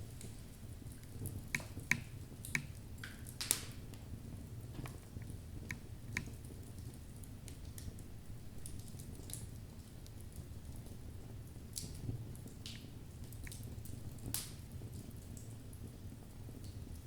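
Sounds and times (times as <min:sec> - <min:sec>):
low rumble of flames: 0:00.0 - 0:17.0
logs crackling and popping: 0:00.1 - 0:17.0.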